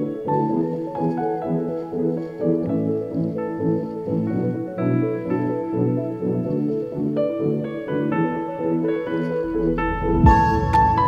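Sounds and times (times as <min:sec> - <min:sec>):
held keyboard notes: 0:00.0 - 0:11.0.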